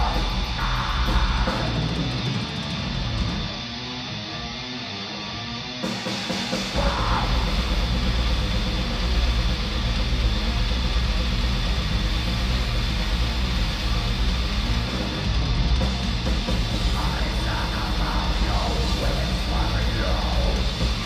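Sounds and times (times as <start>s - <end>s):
drums and cymbals crashing: 0.0s - 3.7s, 5.8s - 21.0s
heavy bass and kick drums: 0.0s - 3.7s, 5.8s - 21.0s
distorted guitar: 0.0s - 21.0s.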